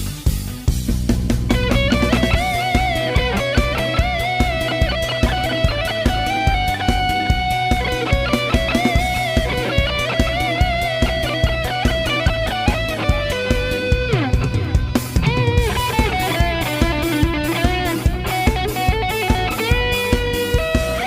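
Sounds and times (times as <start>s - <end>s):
bass: 0.0s - 21.0s
electric guitar lead melody: 0.0s - 21.0s
steady drum beat: 0.0s - 21.0s.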